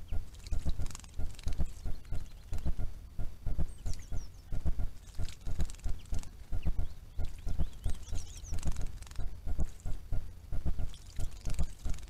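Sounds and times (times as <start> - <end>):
low irregular pulses: 0.0 - 12.0.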